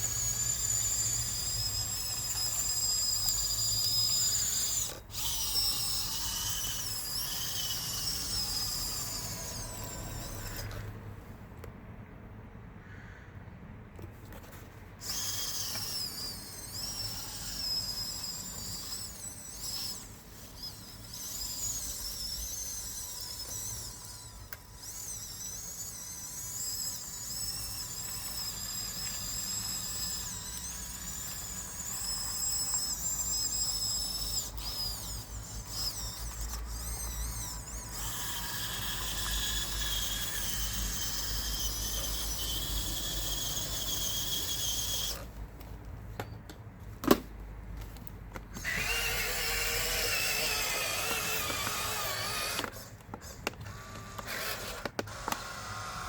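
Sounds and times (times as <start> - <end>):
small electric motors whining: 0.0 - 11.3, 14.0 - 46.3, 47.8 - 56.0.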